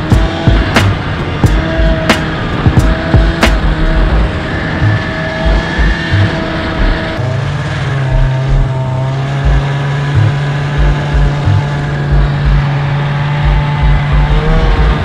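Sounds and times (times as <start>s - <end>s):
low thumps: 0.0s - 7.1s, 8.1s - 8.7s, 9.4s - 12.7s, 13.4s - 15.0s
snowmobile engine running: 0.0s - 15.0s.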